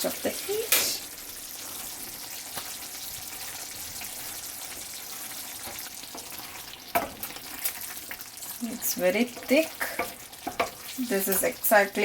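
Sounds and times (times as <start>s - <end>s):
gravy sizzling in a pan: 0.0s - 12.0s.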